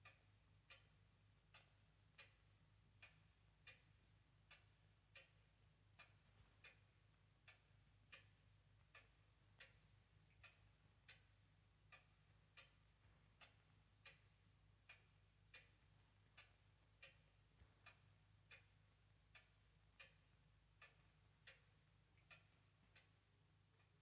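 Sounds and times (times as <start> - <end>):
clock ticking: 0.0 - 24.0
low steady hum: 0.0 - 24.0.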